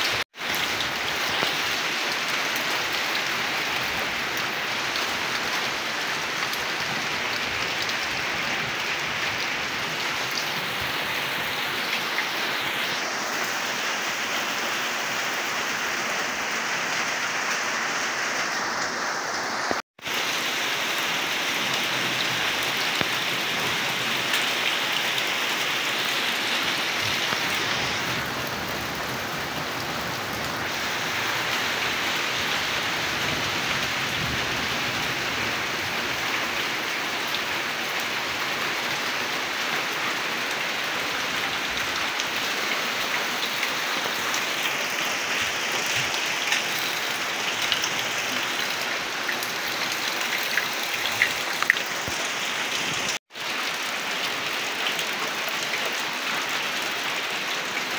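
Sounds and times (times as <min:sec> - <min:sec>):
rain on wet ground: 0:00.0 - 0:57.9.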